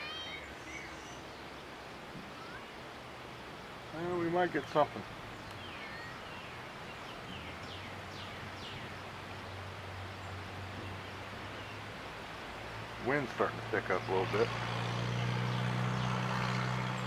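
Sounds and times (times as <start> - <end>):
birds chirping: 0.0 - 17.0
outdoor breeze: 0.0 - 17.0.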